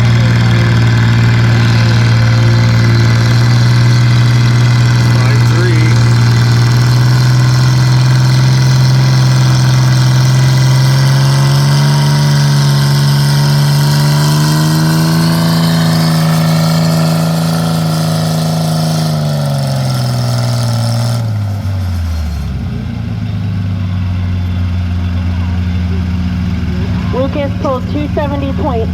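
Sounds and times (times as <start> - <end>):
tractor engine under heavy load: 0.0 - 28.9.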